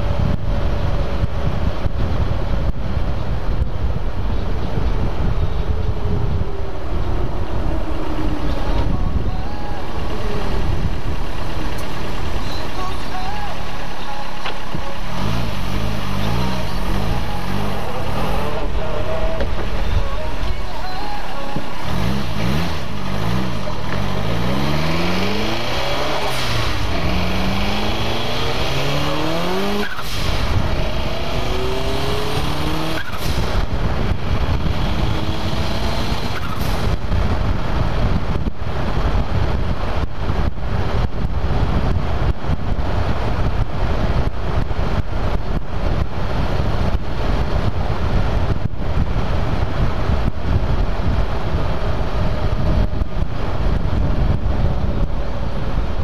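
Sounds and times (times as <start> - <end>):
car engine accelerating: 0.0 - 56.0
wind buffeting microphone: 0.0 - 56.0.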